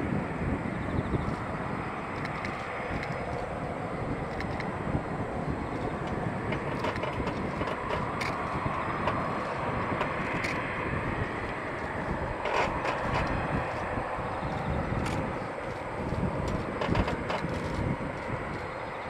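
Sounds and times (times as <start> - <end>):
distant jet engines rumbling: 0.0 - 19.0
faint jet whine: 0.0 - 19.0.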